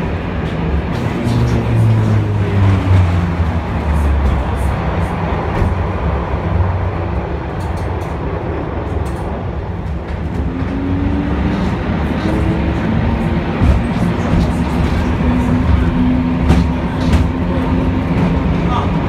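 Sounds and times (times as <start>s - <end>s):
tram motor and wheel rumble: 0.0s - 19.0s.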